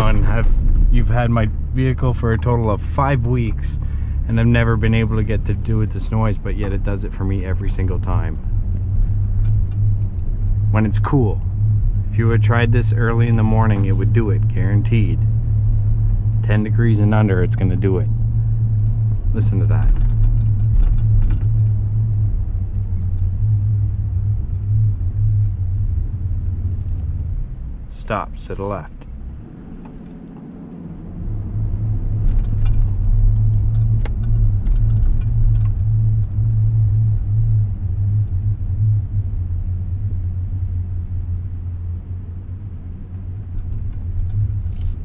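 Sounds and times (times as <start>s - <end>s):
low droning hum in truck cab: 0.0s - 45.0s
road rumble: 0.0s - 45.0s.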